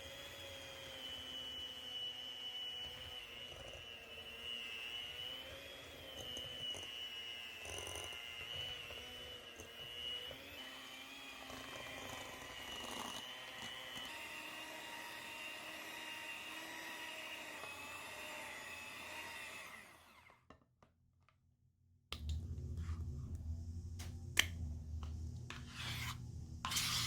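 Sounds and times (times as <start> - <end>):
electric mixer motor whining: 0.0 - 20.5, 22.2 - 27.0.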